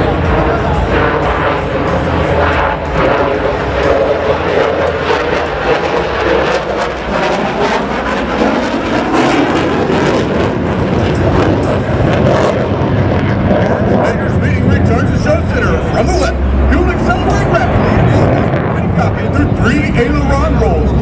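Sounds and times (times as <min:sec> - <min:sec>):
jet engine roaring: 0:00.0 - 0:21.0.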